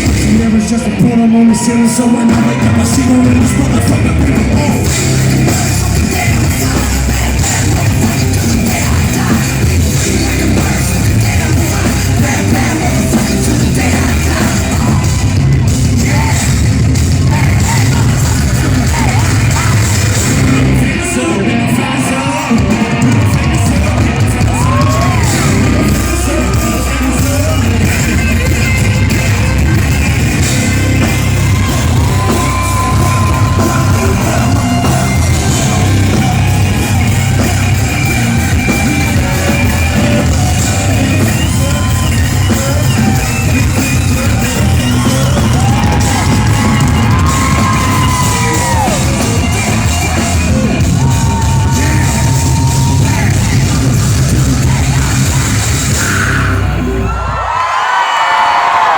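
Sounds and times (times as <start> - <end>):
person singing: 0.0 - 57.0
heavy steady bass: 0.0 - 57.1
live rock music: 0.0 - 58.9.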